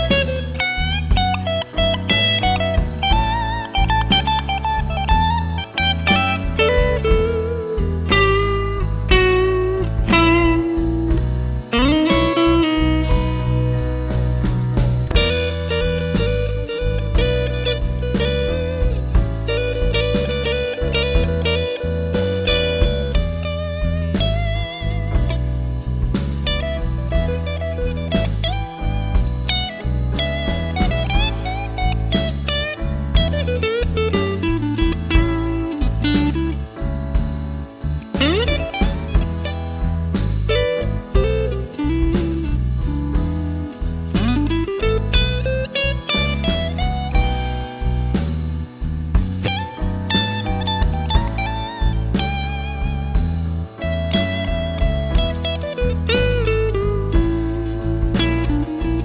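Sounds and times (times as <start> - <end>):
backing track with drums and bass: 0.0 - 59.0
electric guitar blues lead: 0.0 - 59.0.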